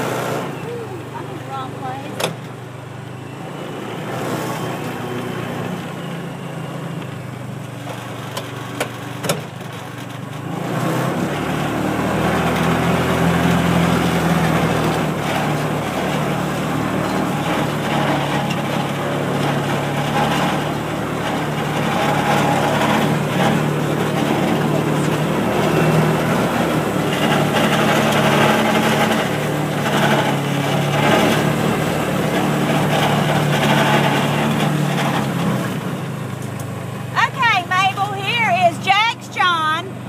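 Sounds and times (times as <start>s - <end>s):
small vehicle engine running: 0.0s - 40.0s.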